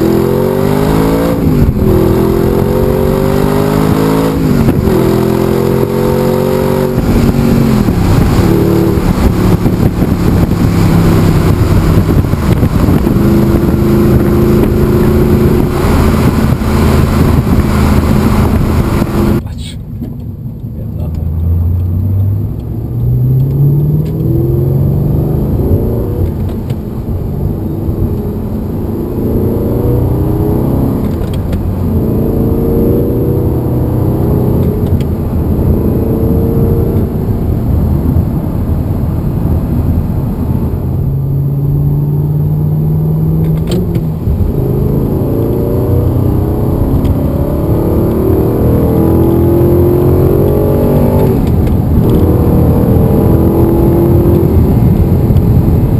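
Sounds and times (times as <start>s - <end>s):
car engine accelerating hard: 0.0s - 55.9s.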